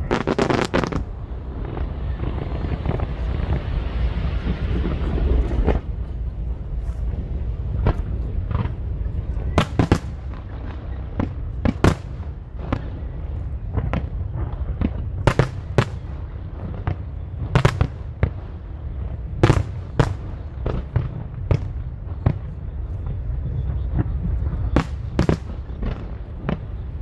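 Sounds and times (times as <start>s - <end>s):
fireworks bursting: 0.0s - 5.9s, 9.4s - 27.0s
steady low rumble: 0.0s - 27.0s.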